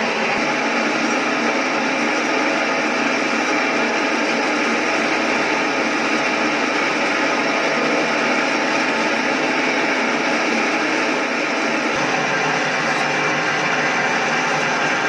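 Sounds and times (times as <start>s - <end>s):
fish-cutting machine running: 0.0s - 15.0s.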